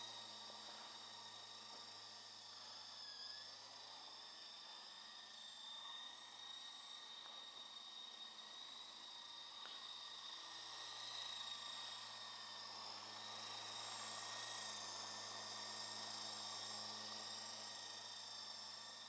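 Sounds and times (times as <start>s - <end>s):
rc helicopter motor whine: 0.0s - 19.0s.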